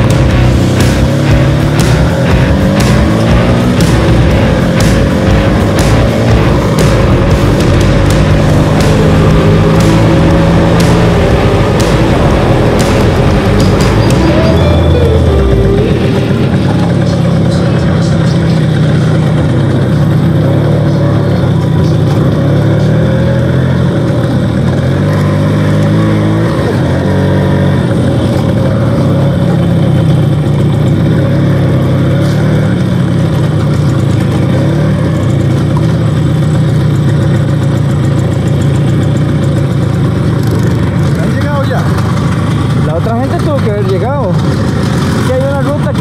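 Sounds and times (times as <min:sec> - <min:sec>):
steady rushing noise: 0:00.0 - 0:37.0
scooter engine running: 0:00.0 - 0:46.0.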